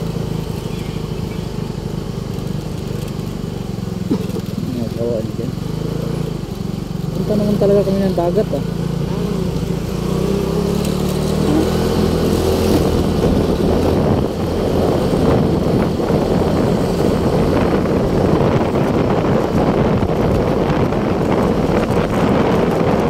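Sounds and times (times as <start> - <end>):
motorcycle engine: 0.0 - 23.0
wind buffeting and road noise: 0.0 - 23.0.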